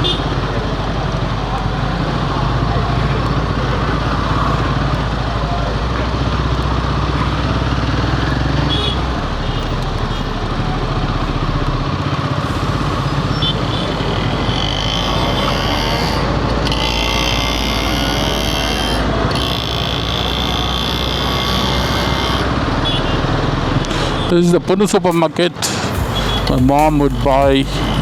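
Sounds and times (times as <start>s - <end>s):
wind and road rush: 0.0s - 16.8s, 18.8s - 28.0s
motorcycle engine running: 0.0s - 25.2s.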